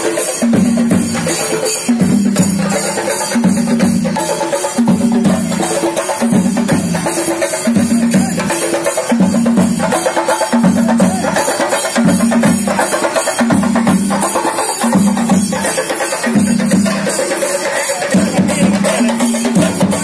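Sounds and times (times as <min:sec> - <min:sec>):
barrel drums beaten with sticks: 0:00.0 - 0:20.0.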